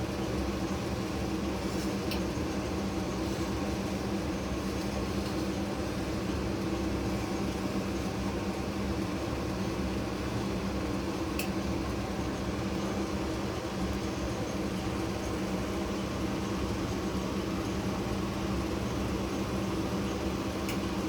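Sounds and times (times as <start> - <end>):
fan motor humming: 0.0 - 21.0.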